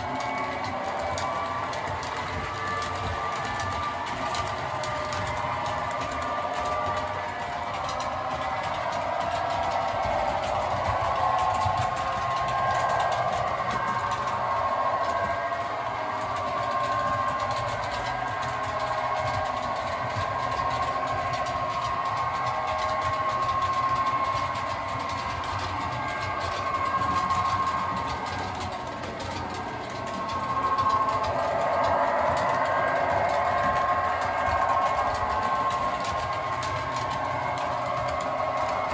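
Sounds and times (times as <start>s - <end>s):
model train motors whining: 0.0s - 38.9s
wheels running on track: 0.0s - 38.9s.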